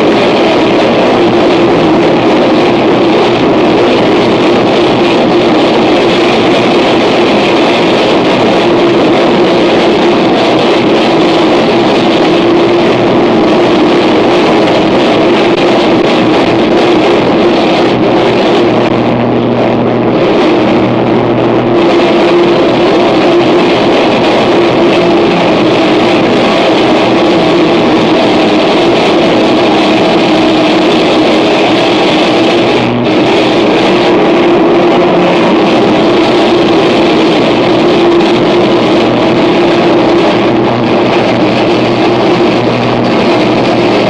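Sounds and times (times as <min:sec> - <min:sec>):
distorted noise wall: 0:00.0 - 0:44.0
low hum: 0:00.0 - 0:44.0
steady drone: 0:00.0 - 0:44.0.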